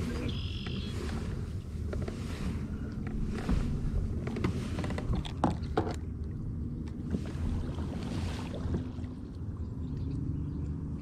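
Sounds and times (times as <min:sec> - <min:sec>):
moving water: 0:00.0 - 0:11.0
wind rumble on microphone: 0:00.0 - 0:11.0.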